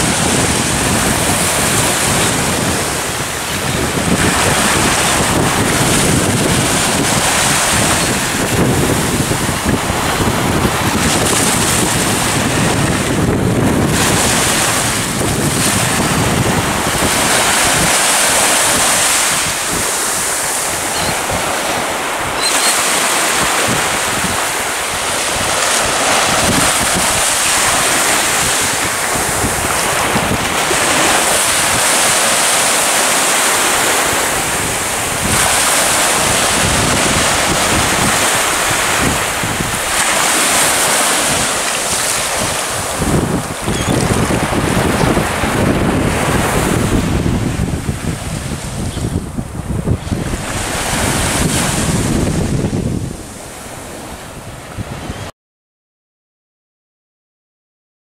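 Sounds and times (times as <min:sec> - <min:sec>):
surf: 0:00.0 - 0:55.3
wind buffeting microphone: 0:00.0 - 0:55.3.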